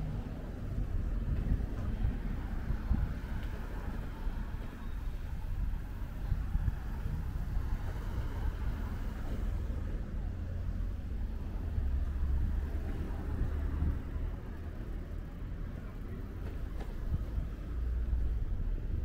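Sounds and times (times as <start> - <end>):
faint voices: 0.0 - 19.0
road traffic rumble: 0.0 - 19.0.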